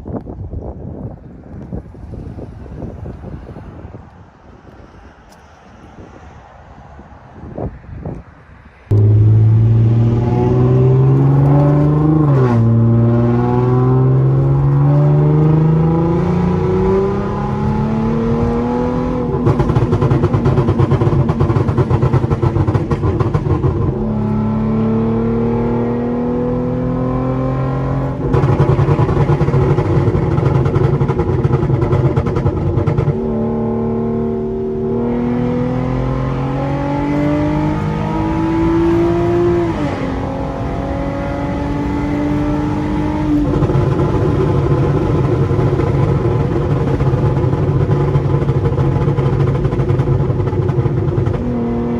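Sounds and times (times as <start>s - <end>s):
car engine revving through upshifts: 8.9s - 51.9s.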